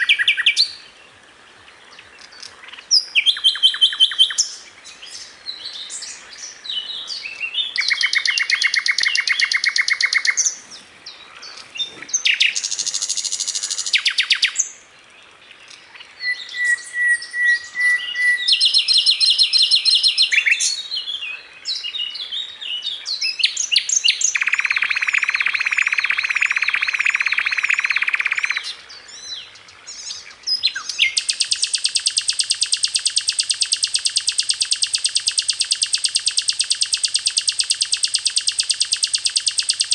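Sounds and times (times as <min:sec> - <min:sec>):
flycatcher singing trills: 0:02.2 - 0:10.6, 0:11.4 - 0:14.7, 0:16.2 - 0:21.1, 0:23.1 - 0:39.9.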